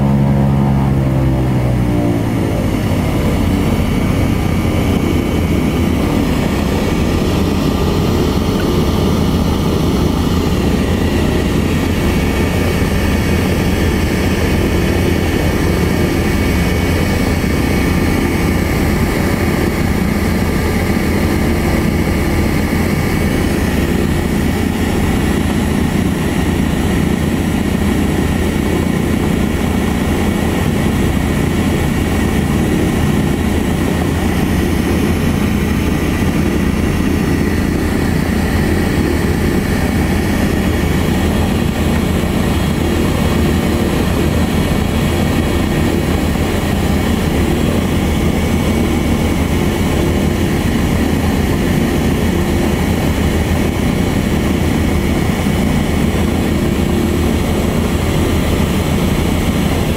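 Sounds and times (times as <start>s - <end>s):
propeller aircraft engines droning: 0.0s - 59.9s.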